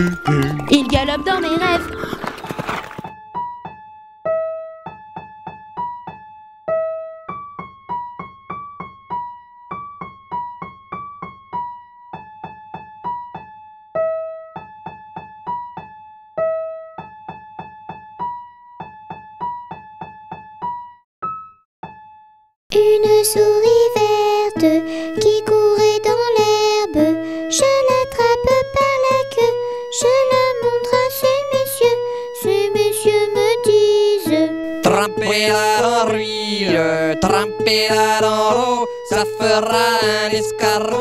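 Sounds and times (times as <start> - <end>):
piano-like keyboard melody: 0.0 - 41.0.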